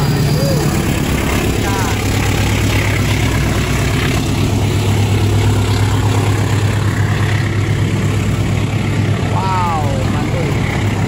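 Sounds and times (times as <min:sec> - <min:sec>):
diesel locomotive drone: 0:00.0 - 0:11.0
train cars rumbling on track: 0:00.0 - 0:11.0.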